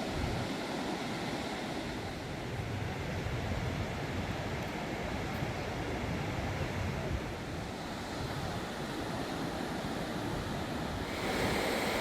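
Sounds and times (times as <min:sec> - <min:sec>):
ocean surf rushing: 0:00.0 - 0:12.0
wind buffeting microphone: 0:00.0 - 0:12.0.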